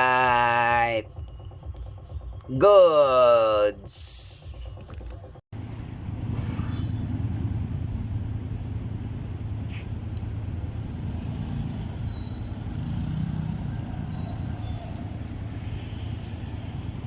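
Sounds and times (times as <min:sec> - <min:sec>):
motorcycle engine running: 0:01.0 - 0:02.5, 0:04.4 - 0:17.0.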